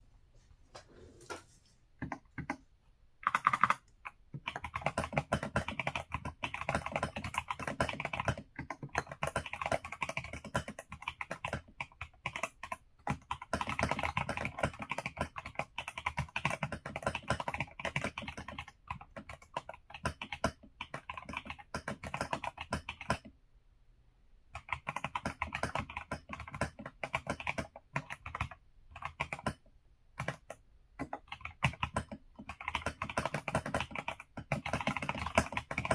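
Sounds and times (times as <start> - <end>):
mechanical keyboard typing: 3.2 - 23.3, 24.6 - 29.6, 30.2 - 35.9.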